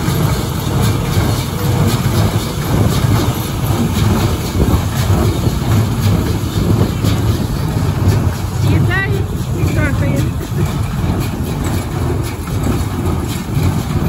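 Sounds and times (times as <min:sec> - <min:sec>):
baler mechanism running: 0:00.0 - 0:14.0
faint clacks: 0:00.0 - 0:14.0
tractor engine drone: 0:00.0 - 0:14.0.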